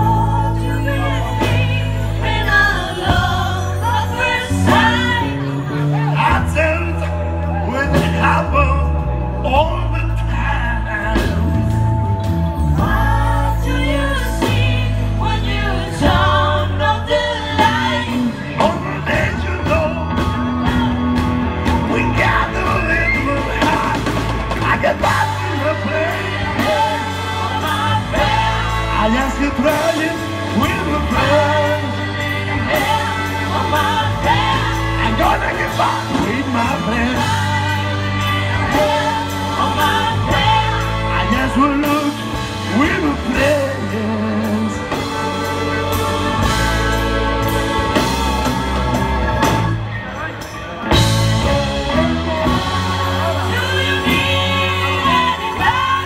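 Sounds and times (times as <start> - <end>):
backing vocals: 0.0 - 56.0
lead singer: 0.0 - 56.0
live rock band playing: 0.0 - 56.0.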